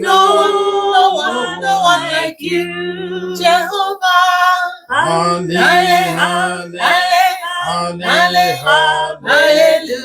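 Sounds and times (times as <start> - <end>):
voices singing worship song: 0.0 - 10.0.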